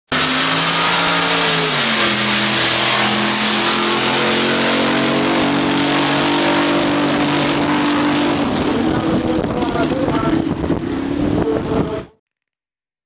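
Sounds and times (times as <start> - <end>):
drag boat engines running: 0.2 - 12.1.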